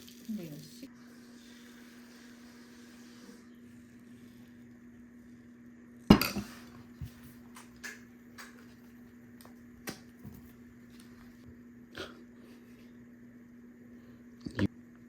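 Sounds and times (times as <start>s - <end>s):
steady low hum: 0.9s - 15.0s.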